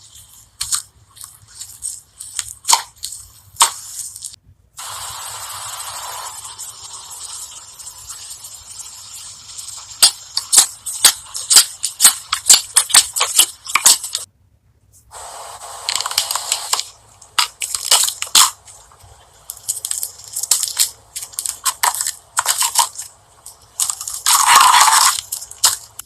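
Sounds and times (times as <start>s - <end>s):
slime squishing and crackling: 0.0s - 4.4s, 6.4s - 14.3s, 15.9s - 26.0s.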